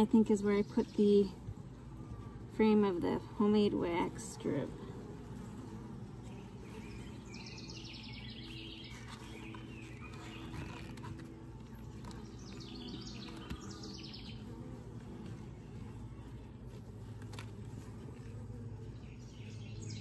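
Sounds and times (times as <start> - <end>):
bees humming: 0.0 - 20.0.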